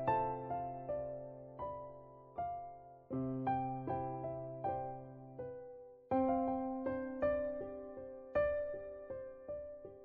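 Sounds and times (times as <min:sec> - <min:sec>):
slow keyboard melody: 0:00.0 - 0:10.0.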